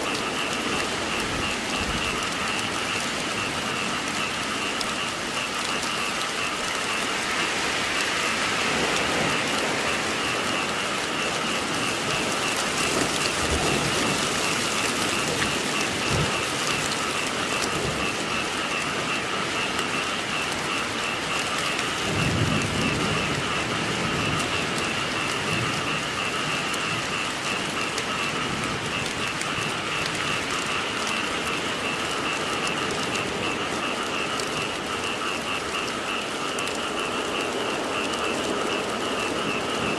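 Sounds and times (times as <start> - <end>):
thunder rumbling: 0.0 - 21.2, 21.8 - 36.2
frogs trilling: 0.0 - 39.9
steady rain falling: 0.0 - 39.9.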